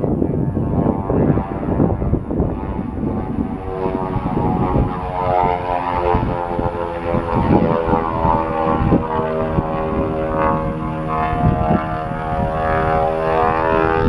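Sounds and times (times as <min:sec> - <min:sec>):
engine drone: 0:00.0 - 0:14.0
propeller plane rumble: 0:00.0 - 0:14.0.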